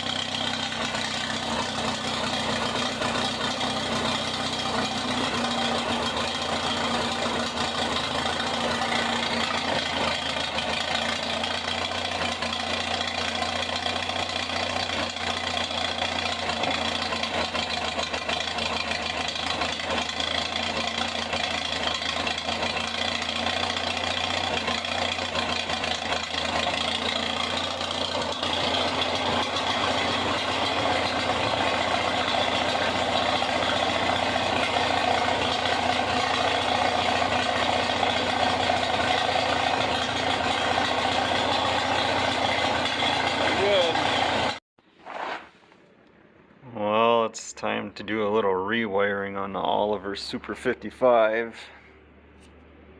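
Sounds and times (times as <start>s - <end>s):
tractor engine idling: 0.0s - 44.6s, 46.0s - 52.9s.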